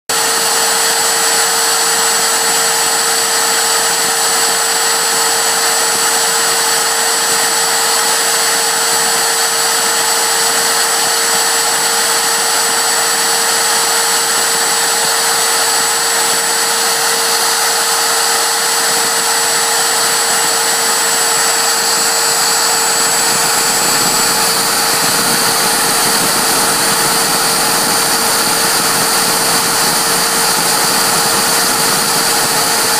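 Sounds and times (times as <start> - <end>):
drill bit drilling plastic: 0.1 - 32.9
router spindle whining: 0.1 - 32.9.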